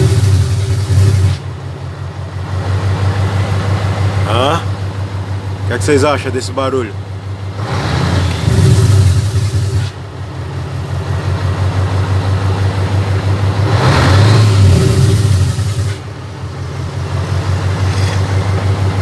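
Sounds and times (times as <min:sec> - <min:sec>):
diesel truck engine braking: 0:00.0 - 0:19.0.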